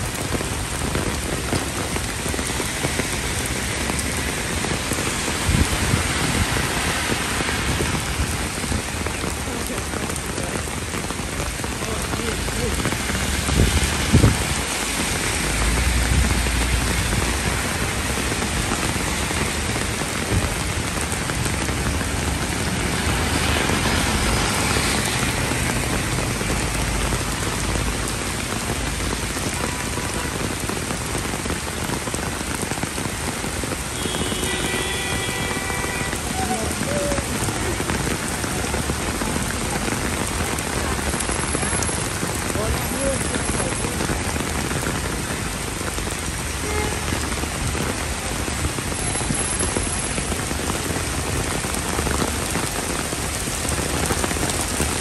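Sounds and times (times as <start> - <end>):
heavy rain on pavement: 0.0 - 55.0.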